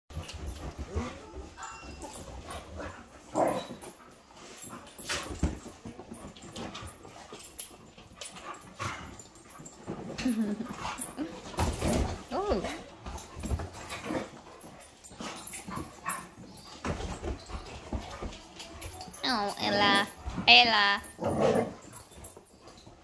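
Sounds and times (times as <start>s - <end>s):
dogs yipping and whimpering: 0.5s - 5.6s, 6.2s - 20.2s.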